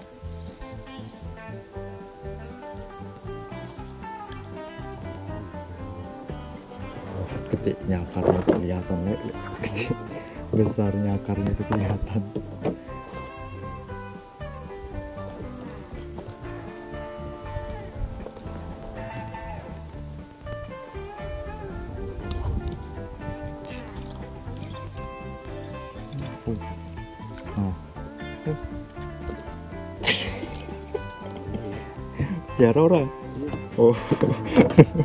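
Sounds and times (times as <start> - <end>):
insect chorus drone: 0.0 - 35.0.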